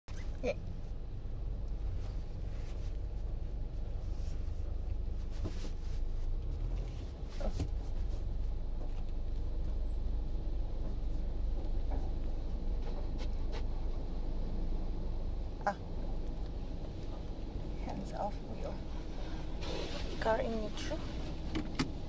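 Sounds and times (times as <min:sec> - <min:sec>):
car engine rumble inside cabin: 0:00.1 - 0:22.0.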